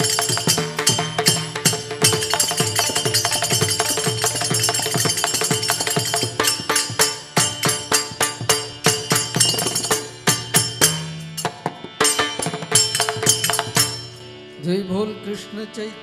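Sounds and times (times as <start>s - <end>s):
fast metallic percussion: 0.0s - 14.4s
steady held tones: 0.0s - 15.6s.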